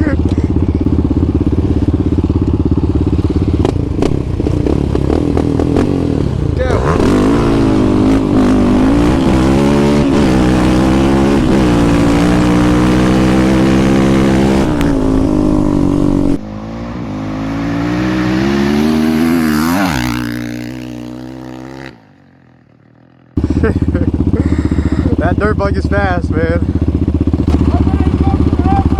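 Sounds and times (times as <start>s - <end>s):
off-road engine revving: 0.0s - 22.2s, 23.4s - 28.9s.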